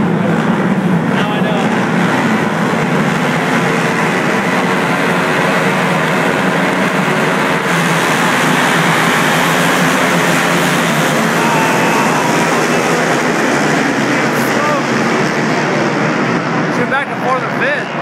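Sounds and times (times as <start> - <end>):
motorcycles revving and accelerating: 0.0 - 18.0.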